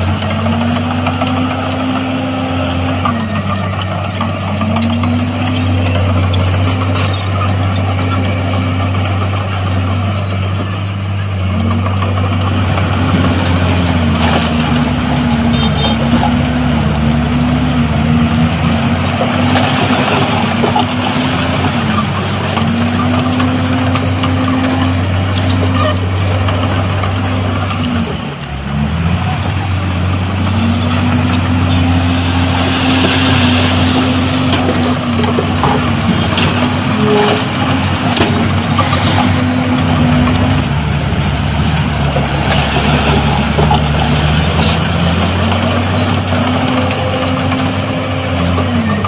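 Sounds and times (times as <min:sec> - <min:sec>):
heavy diesel engine running hard: 0:00.0 - 0:49.0.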